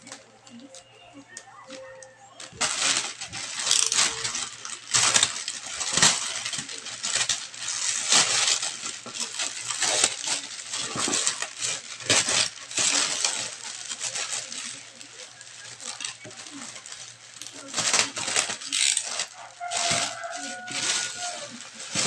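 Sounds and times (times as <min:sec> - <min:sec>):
plastic bag crinkling and tearing: 0:00.0 - 0:22.0.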